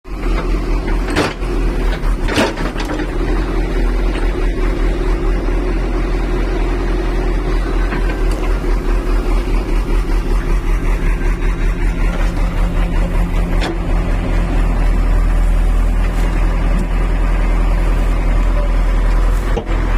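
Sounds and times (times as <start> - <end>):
diesel engine running: 0.1 - 19.9.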